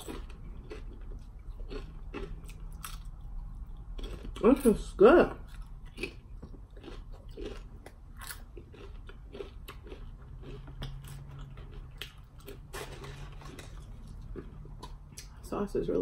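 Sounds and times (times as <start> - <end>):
person chewing crunchy chips: 0.0 - 15.4
low steady hum: 0.0 - 16.0.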